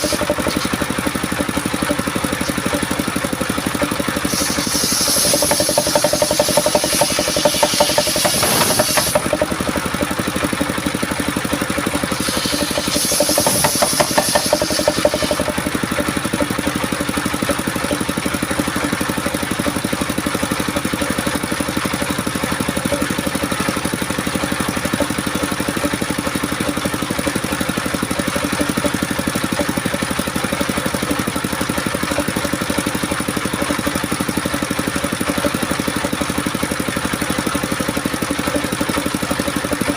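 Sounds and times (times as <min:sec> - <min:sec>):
circular saw running: 0:00.0 - 0:39.9
saw blade cutting wood: 0:00.0 - 0:39.9.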